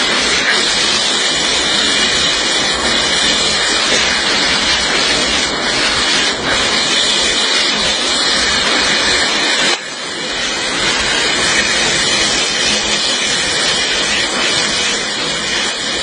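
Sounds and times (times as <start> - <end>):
spraying water hissing: 0.0 - 16.0.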